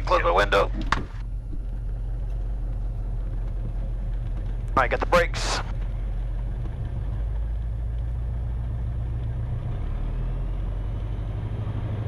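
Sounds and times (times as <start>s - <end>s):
aircraft engine droning: 0.0s - 12.0s.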